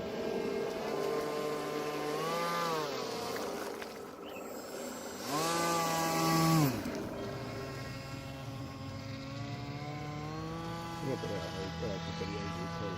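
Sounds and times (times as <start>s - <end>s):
model airboat motor and propeller: 0.0s - 12.9s.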